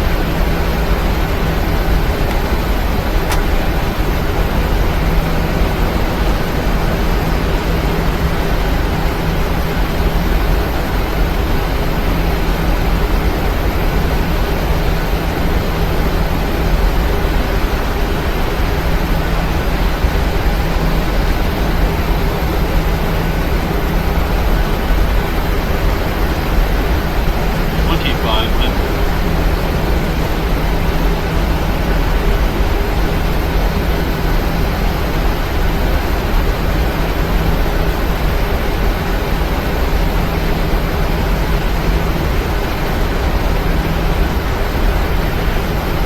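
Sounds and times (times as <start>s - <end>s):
jet engine roar in cabin: 0.0s - 46.0s.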